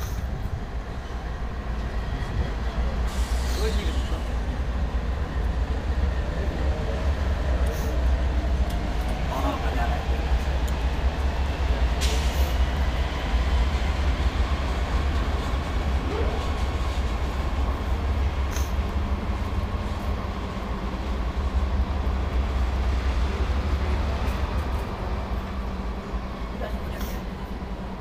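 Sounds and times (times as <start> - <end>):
diesel locomotive passing: 0.0 - 28.0
freight train wheels rumbling on rail: 0.0 - 28.0.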